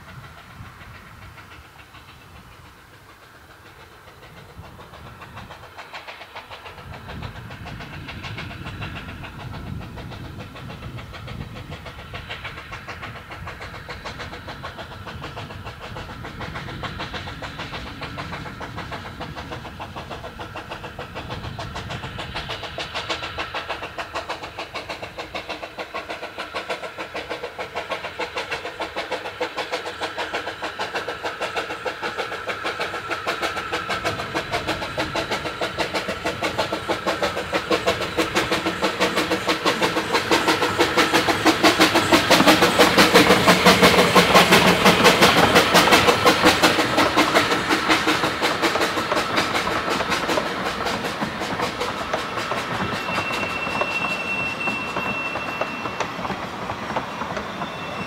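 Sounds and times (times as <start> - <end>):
steam locomotive exhaust beat: 0.0 - 58.0.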